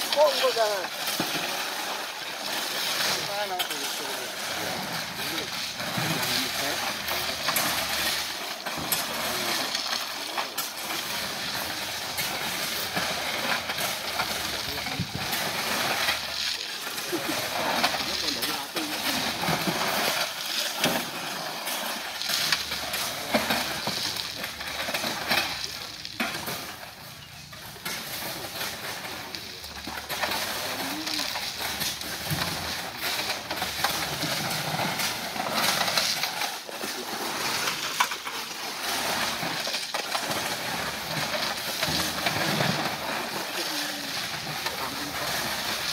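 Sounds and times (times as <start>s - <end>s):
gravel scraping and clattering: 0.0s - 45.9s.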